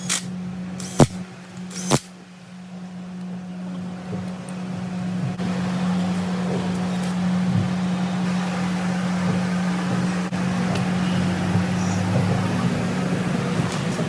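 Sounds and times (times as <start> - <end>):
machine low hum: 0.0 - 14.0.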